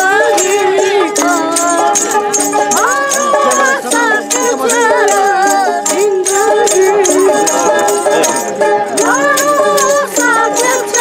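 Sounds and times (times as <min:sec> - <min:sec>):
boys singing: 0:00.0 - 0:11.0
rhythmic jingle: 0:00.0 - 0:11.0.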